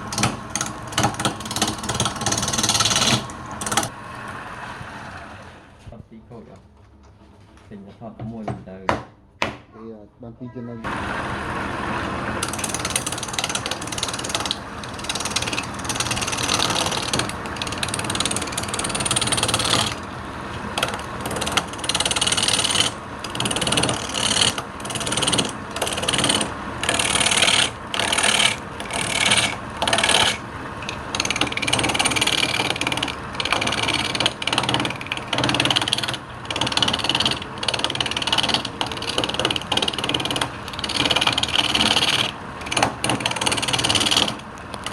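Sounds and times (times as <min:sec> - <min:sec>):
turning tool cutting wood: 0:00.0 - 0:05.6, 0:10.9 - 0:44.9
wood lathe running: 0:00.0 - 0:05.8, 0:10.9 - 0:44.9.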